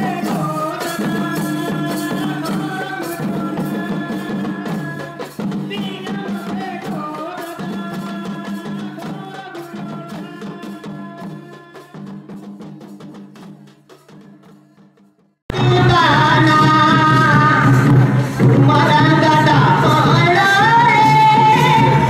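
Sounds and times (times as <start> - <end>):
folk dance music with drums: 0.0 - 22.0.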